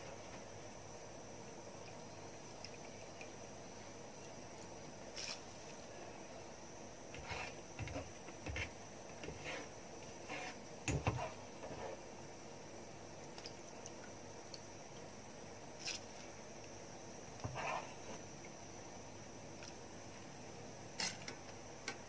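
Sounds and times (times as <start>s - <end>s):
pot heating with faint hiss: 0.0s - 22.0s.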